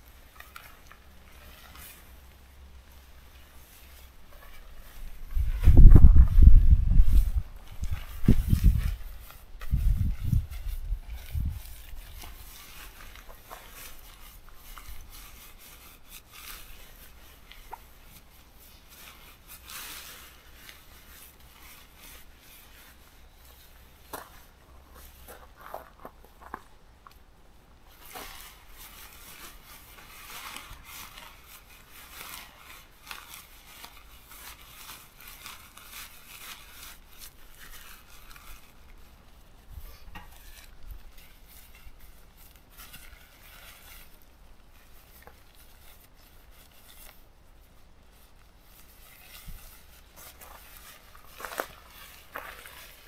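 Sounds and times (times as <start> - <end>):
tent fabric rustling: 0.0 - 26.8, 27.8 - 53.0.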